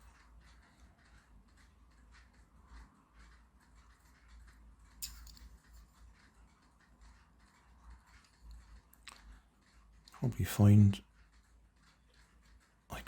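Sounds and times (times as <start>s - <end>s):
faint small clicks and scratches: 0.0s - 13.0s.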